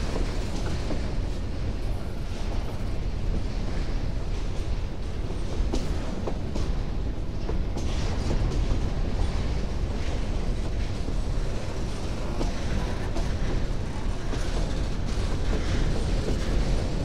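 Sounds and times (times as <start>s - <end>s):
rumble of wheels on rail: 0.0s - 17.0s.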